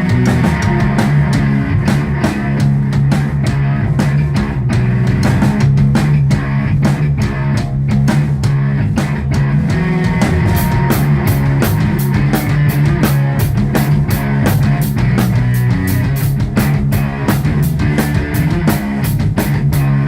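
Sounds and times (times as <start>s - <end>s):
distorted guitar and bass riff: 0.0s - 20.0s
steady drum beat: 0.0s - 20.0s.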